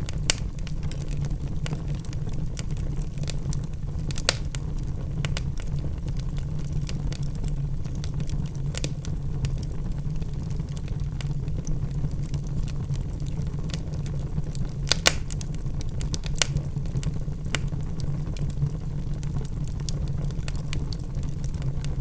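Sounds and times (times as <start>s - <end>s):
logs crackling and popping: 0.0s - 22.0s
wood fire flame rumble: 0.0s - 22.0s.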